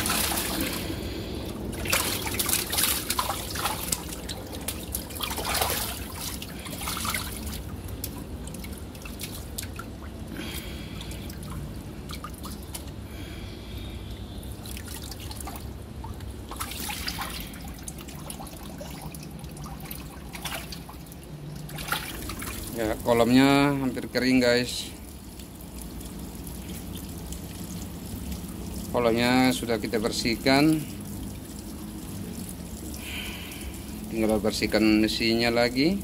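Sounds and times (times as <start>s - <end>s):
water splashing: 0.0s - 13.5s, 14.1s - 36.0s
water trickling and dripping: 0.0s - 36.0s.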